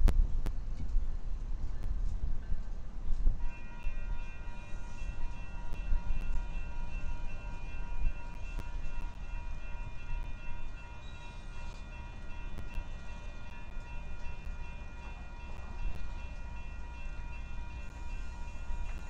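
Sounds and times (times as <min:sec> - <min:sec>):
diesel locomotives rumbling: 0:00.0 - 0:19.0
steady high tones: 0:03.4 - 0:19.0.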